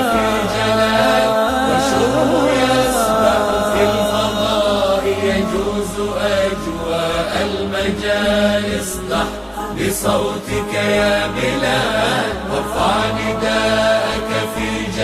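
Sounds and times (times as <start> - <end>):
steady held drone: 0.0 - 15.0
wordless vocal chanting: 0.0 - 15.0.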